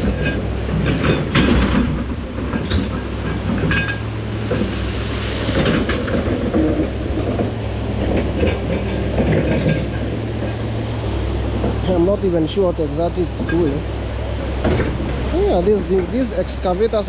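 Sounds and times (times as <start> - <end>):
metallic clanks and knocks: 0.0 - 15.2
diesel engine hum: 0.0 - 17.0.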